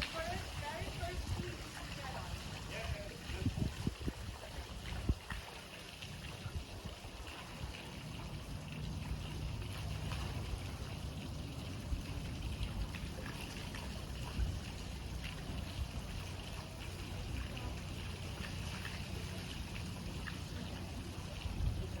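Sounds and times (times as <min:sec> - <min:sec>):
low steady hum: 0:00.0 - 0:22.0
water rushing into canal lock: 0:00.0 - 0:22.0.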